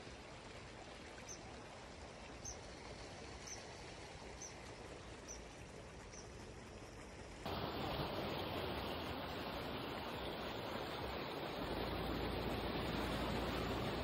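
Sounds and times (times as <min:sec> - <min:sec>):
flowing water: 0:00.0 - 0:14.0.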